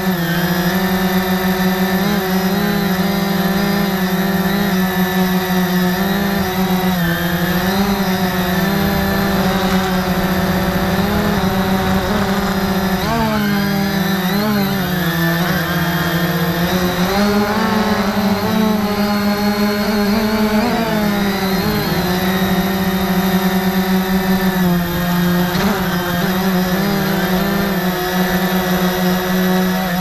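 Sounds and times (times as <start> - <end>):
drone motors humming: 0.0 - 30.0.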